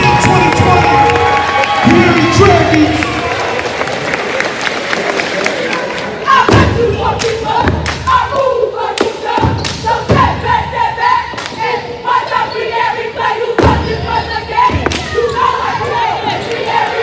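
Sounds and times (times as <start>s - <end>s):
cheerleaders chanting: 0.0s - 3.5s, 5.6s - 17.0s.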